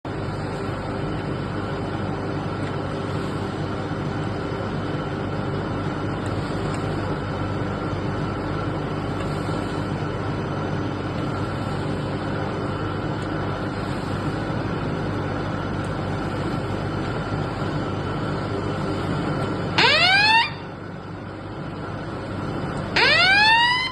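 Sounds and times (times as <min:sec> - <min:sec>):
machinery humming: 0:00.0 - 0:23.9.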